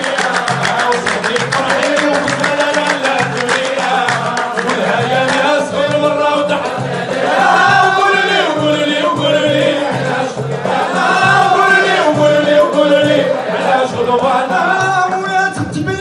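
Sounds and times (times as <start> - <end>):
chorus of men singing: 0.0 - 16.0
people clapping: 0.0 - 16.0.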